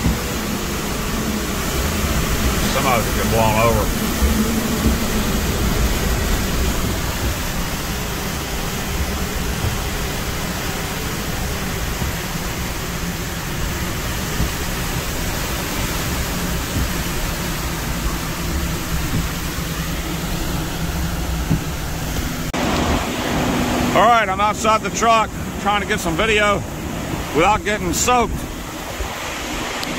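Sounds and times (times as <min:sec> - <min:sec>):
driving rain: 0:00.0 - 0:29.9
hurricane wind roaring: 0:00.0 - 0:29.9.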